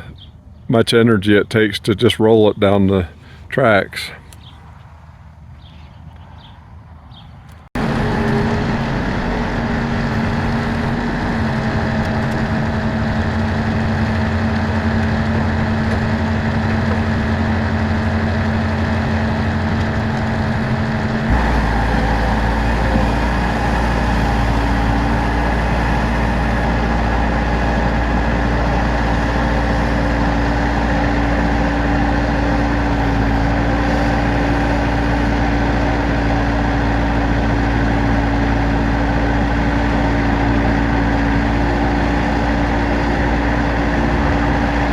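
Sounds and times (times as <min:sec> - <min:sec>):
engine running: 0:07.8 - 0:44.9.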